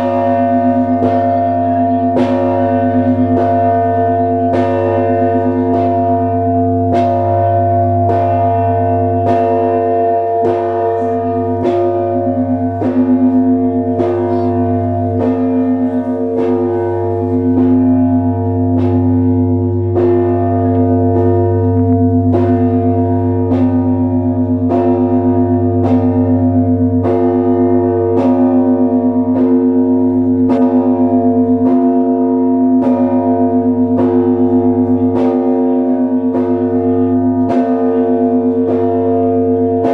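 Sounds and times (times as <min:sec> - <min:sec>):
church bells ringing: 0:00.0 - 0:39.9
deep hum of large bell: 0:00.0 - 0:39.9.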